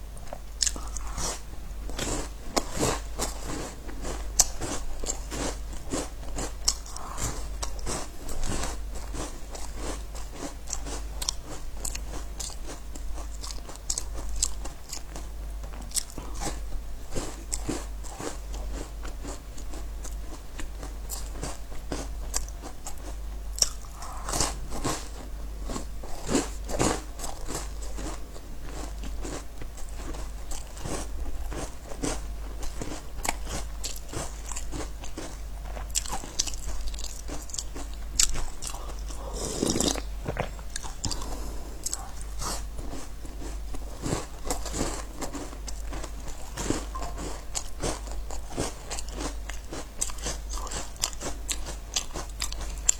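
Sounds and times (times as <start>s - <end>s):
crunching and chewing biscuits: 0.0s - 52.9s
steady low hum: 0.0s - 52.9s.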